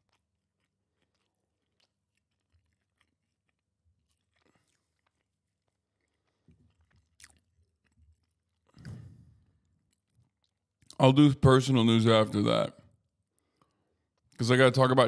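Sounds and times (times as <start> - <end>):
chewing: 0.0 - 11.0, 13.1 - 14.6.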